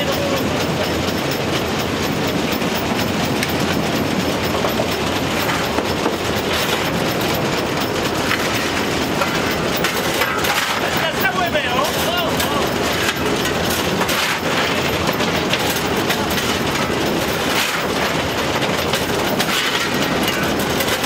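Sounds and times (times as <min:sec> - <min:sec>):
steam locomotive running noise: 0:00.0 - 0:21.0
wheels clattering on track: 0:00.0 - 0:21.0.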